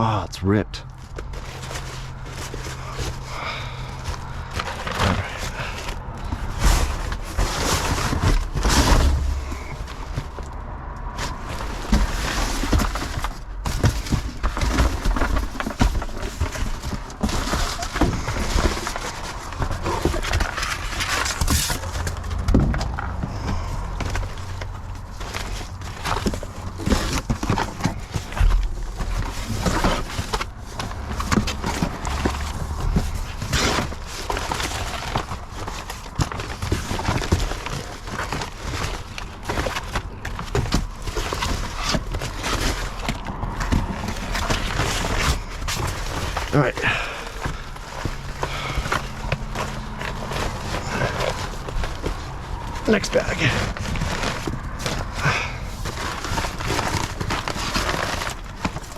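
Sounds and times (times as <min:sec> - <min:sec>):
plastic packaging rustling: 0:00.8 - 0:58.9
packages knocking together: 0:00.9 - 0:58.9.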